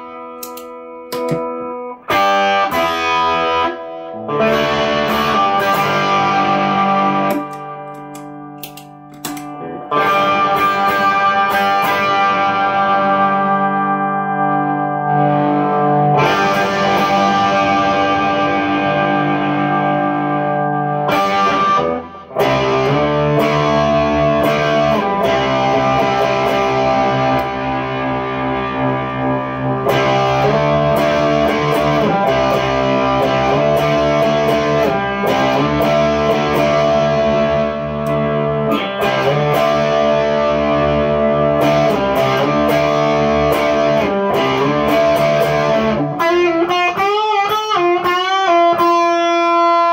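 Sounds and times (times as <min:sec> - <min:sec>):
electric guitar ringing chords: 0:00.0 - 0:49.9.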